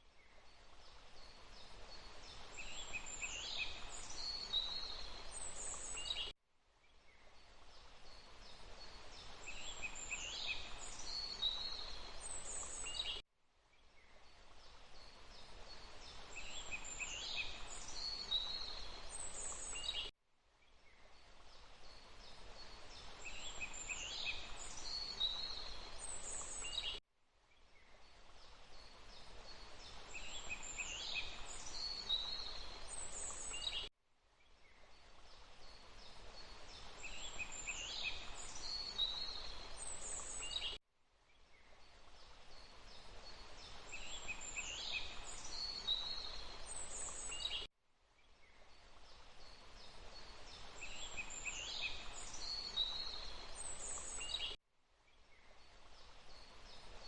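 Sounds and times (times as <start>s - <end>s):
rushing water: 0.4s - 6.2s, 7.4s - 13.0s, 14.3s - 20.0s, 21.2s - 26.8s, 28.0s - 33.7s, 35.0s - 40.5s, 41.9s - 47.4s, 48.7s - 54.3s, 55.6s - 57.0s.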